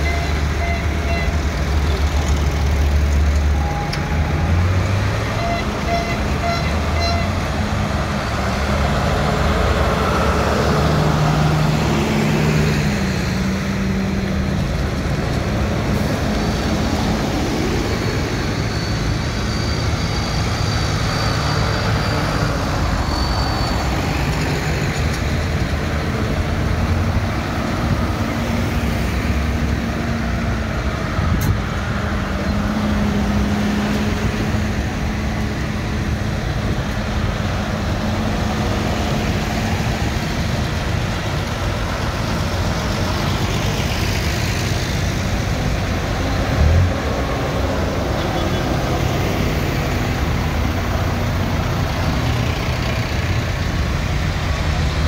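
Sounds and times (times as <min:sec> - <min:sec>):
diesel tractor engines: 0:00.0 - 0:55.0.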